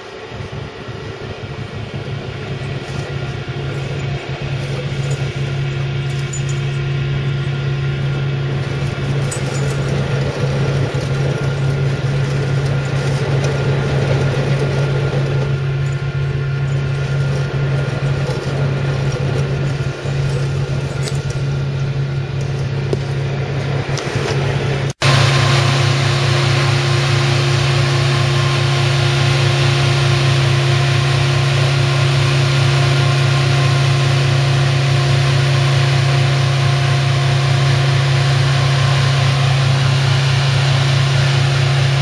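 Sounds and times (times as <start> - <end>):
vehicle engine drone: 0.0 - 42.0.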